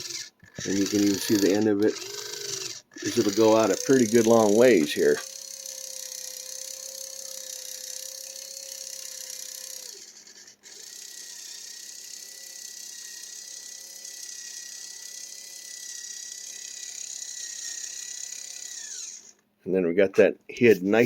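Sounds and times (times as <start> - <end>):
small servo motor whining: 0.0 - 19.4.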